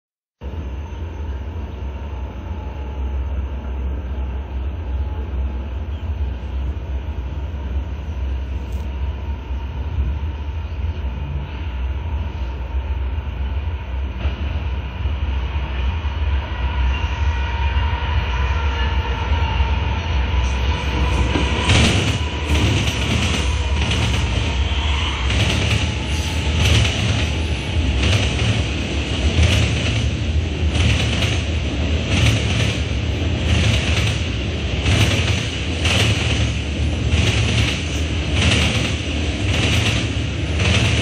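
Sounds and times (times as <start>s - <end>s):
freight train rumble: 0.4s - 41.0s.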